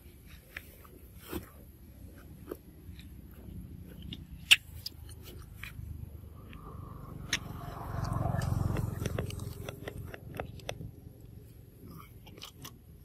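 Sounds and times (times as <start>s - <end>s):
monkeys chewing fruit clicks: 0.3s - 13.0s.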